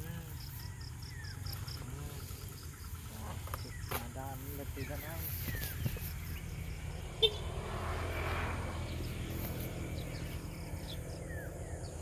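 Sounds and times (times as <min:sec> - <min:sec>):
steady low rumble: 0:00.4 - 0:12.0.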